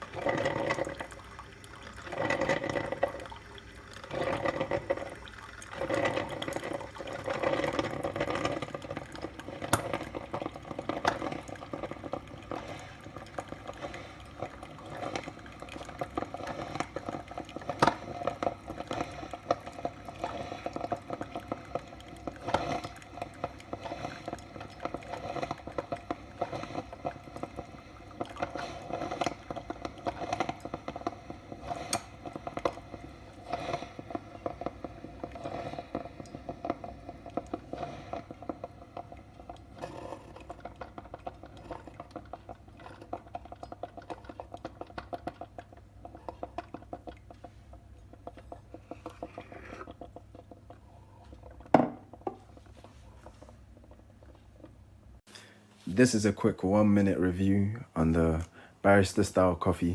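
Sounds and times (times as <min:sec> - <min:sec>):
coffee maker gurgling: 0:00.0 - 0:59.9.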